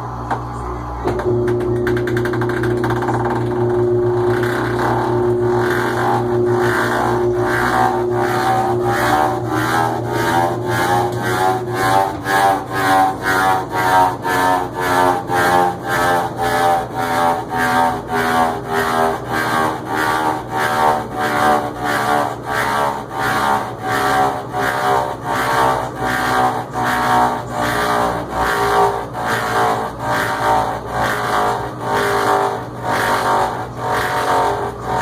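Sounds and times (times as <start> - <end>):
rhythmic rubbing pulse: 0.0 - 35.0
washing machine motor hum: 0.0 - 35.0.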